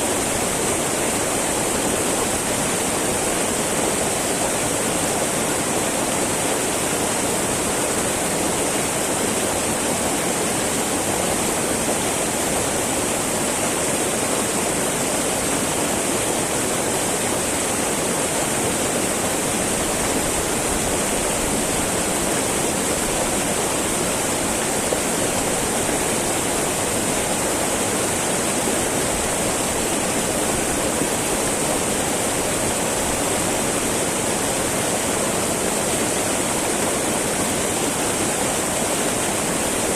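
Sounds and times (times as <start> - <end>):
river babbling over rocks: 0.0 - 39.9.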